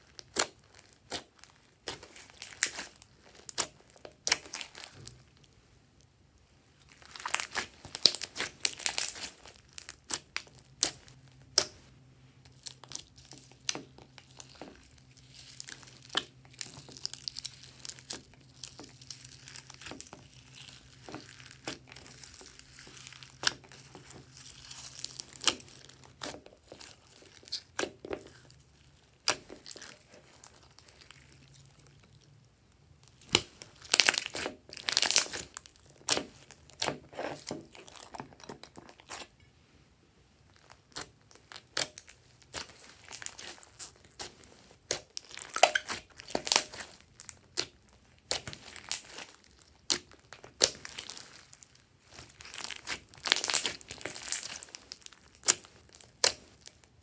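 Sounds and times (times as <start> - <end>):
hands squishing sticky slime: 0.0 - 5.5, 6.7 - 39.4, 40.5 - 56.9.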